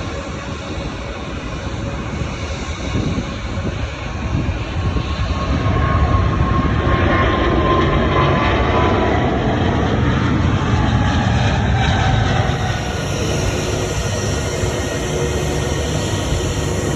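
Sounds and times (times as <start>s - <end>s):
faint engine whine: 0.0s - 16.9s
jet engines rumbling: 0.0s - 16.9s.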